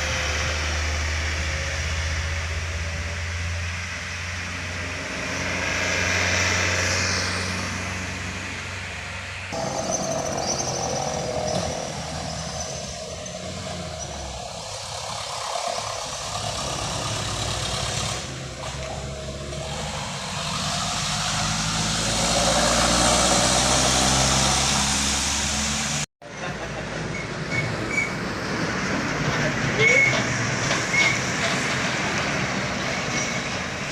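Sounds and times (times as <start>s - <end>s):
heavy truck diesel engine climbing: 0.0s - 33.9s
tyre and road noise: 0.0s - 33.9s.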